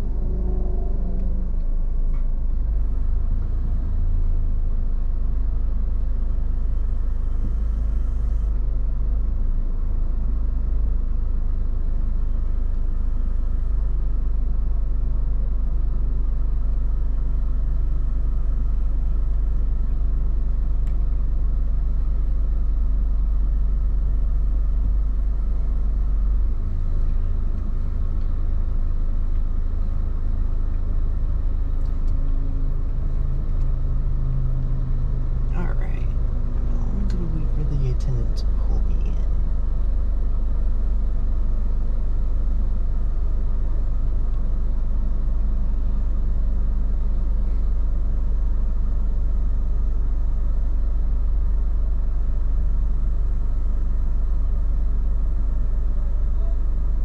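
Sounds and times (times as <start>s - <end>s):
car engine idling in cabin: 0.0s - 57.0s.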